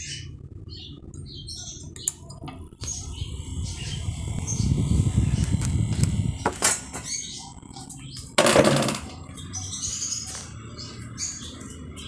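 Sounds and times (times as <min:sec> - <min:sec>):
small birds chirping: 0:00.0 - 0:08.4, 0:09.0 - 0:12.0
desk fan airflow rumble: 0:00.0 - 0:12.0.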